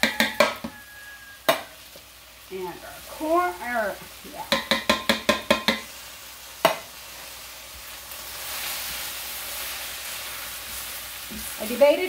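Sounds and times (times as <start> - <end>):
rice sizzling in skillet: 0.0 - 12.0.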